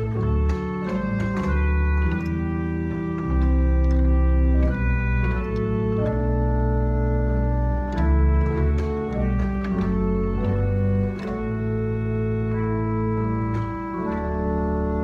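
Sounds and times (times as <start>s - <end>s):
deep bass organ notes: 0.0s - 15.0s
organ chords: 0.0s - 15.0s.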